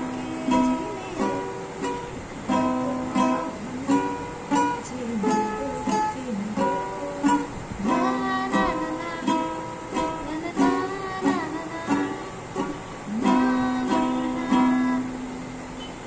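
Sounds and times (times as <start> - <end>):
woman singing: 0.0 - 15.4
ukulele strummed in chords: 0.0 - 15.8.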